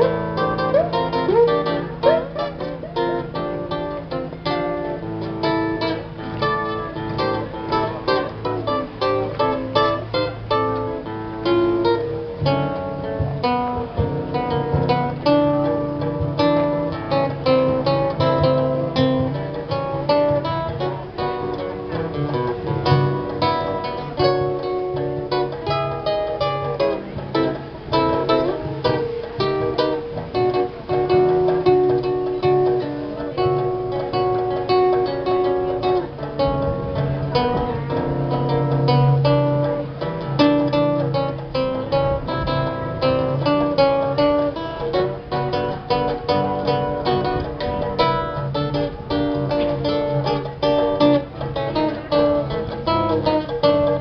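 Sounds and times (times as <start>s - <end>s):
acoustic guitars playing samba: 0.0s - 54.0s.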